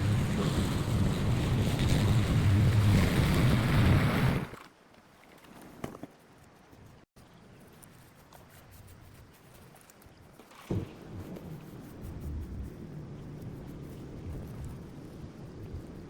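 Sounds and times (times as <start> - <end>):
wind noise on microphone: 0.0 - 4.6, 6.7 - 16.0.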